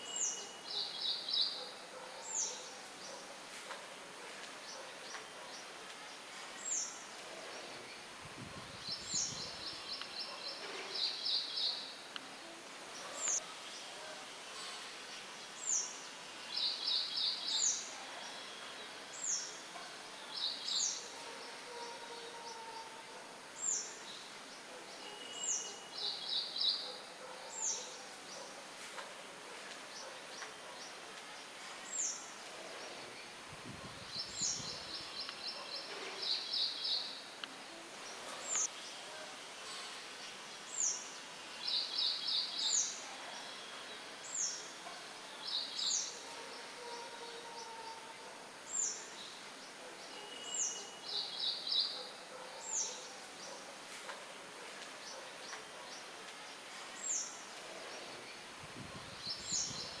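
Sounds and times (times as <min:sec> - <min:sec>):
wind through trees: 0:00.0 - 1:00.0.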